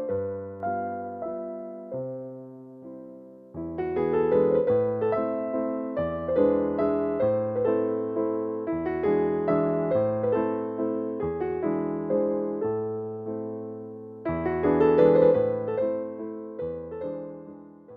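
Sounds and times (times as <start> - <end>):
gentle piano music: 0.0 - 17.9.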